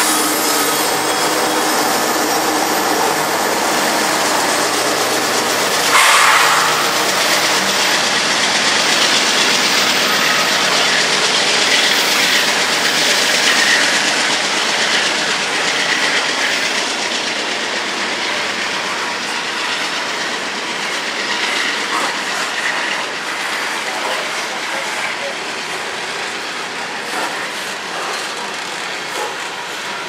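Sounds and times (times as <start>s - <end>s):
freight train rolling past: 0.0s - 30.0s
wheels clickety-clack on rails: 0.0s - 30.0s.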